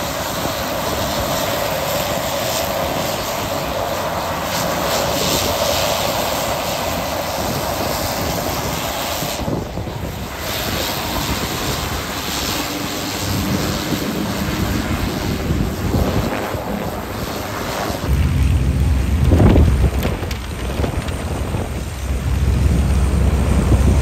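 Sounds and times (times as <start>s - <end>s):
turboprop engine and propeller running: 0.0s - 24.0s
wind buffeting microphone: 0.0s - 24.0s.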